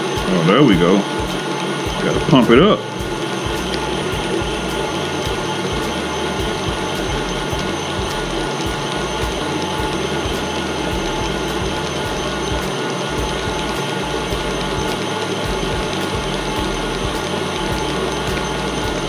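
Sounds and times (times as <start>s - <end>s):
electric mixer whirring: 0.0s - 19.0s.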